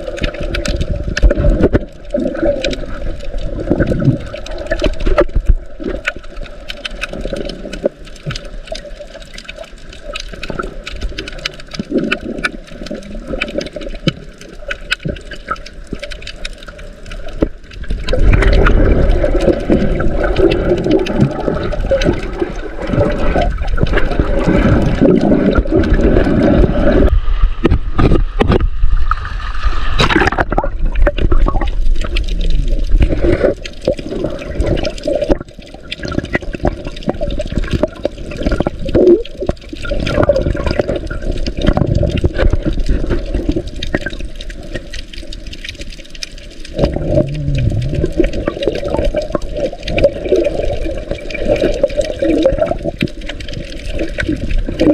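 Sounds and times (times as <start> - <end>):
crackle of small clicks: 0.0 - 54.9
water rushing and gurgling underwater: 0.0 - 54.9.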